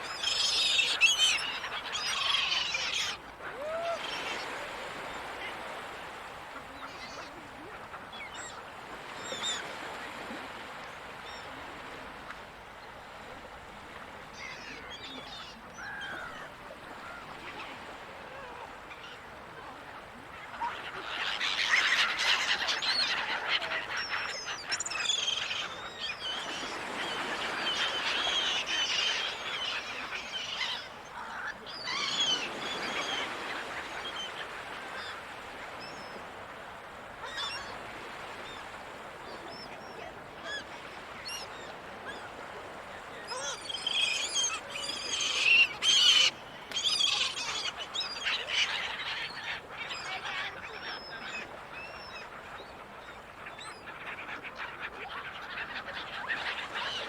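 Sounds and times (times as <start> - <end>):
seagulls calling: 0.0 - 11.9, 14.3 - 19.2, 20.4 - 36.4, 37.2 - 57.0.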